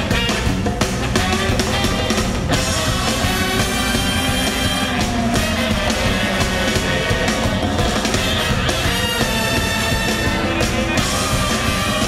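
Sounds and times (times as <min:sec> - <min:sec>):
drum kit: 0:00.0 - 0:12.0
saxophones playing held lines: 0:00.0 - 0:12.0.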